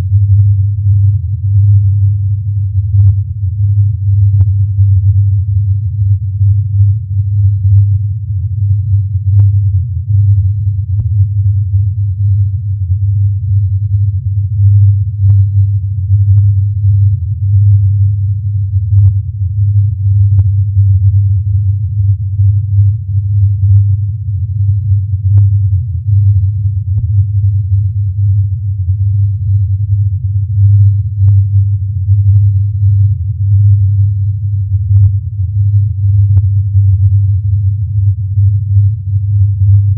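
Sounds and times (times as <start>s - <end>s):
steady deep hum: 0.0s - 39.9s.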